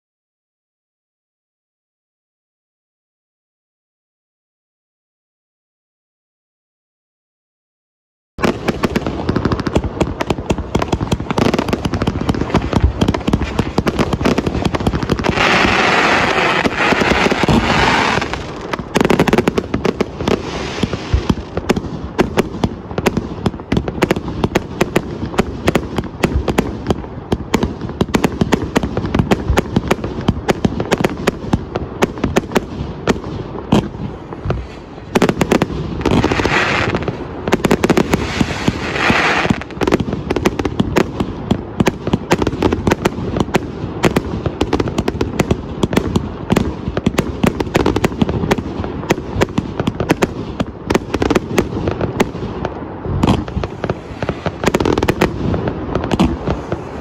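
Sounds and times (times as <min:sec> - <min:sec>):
fireworks hissing: 0:08.4 - 0:45.5, 0:46.4 - 0:57.0
fireworks firing: 0:08.4 - 0:57.0.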